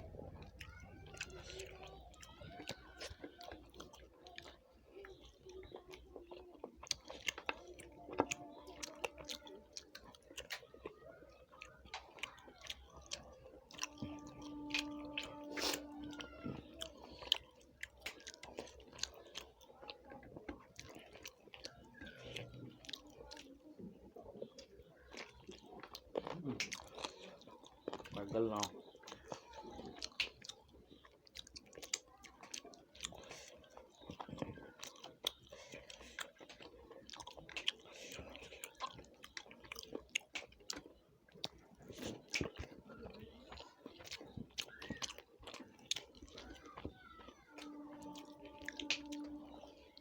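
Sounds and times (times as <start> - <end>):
people chewing food: 0.0 - 50.0.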